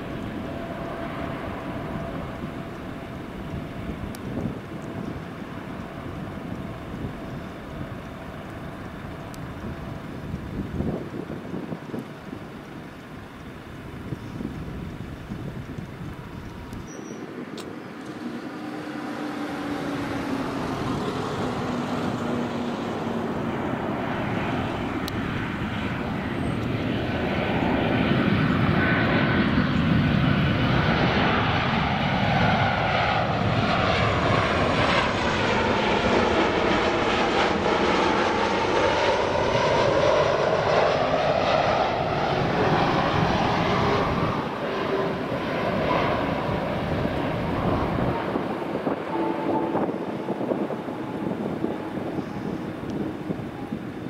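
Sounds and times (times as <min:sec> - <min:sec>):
jet airliner passing overhead: 0:00.0 - 0:54.0.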